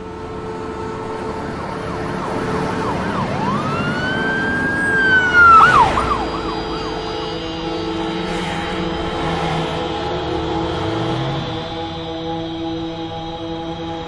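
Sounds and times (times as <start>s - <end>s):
ambulance siren yelping and wailing: 0.0s - 14.0s
steady low drone: 0.0s - 14.0s.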